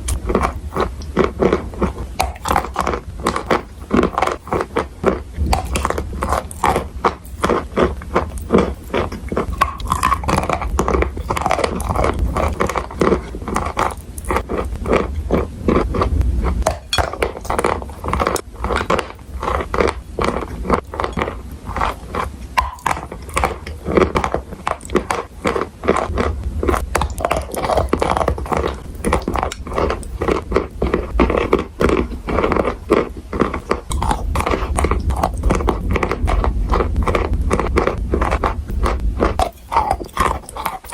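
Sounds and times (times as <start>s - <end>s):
chalk crunching being chewed: 0.0s - 40.9s.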